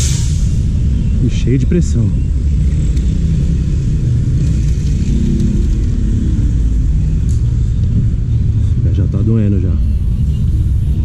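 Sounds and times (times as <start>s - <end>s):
faint engine drone: 0.0s - 11.0s
low outdoor rumble: 0.0s - 11.0s.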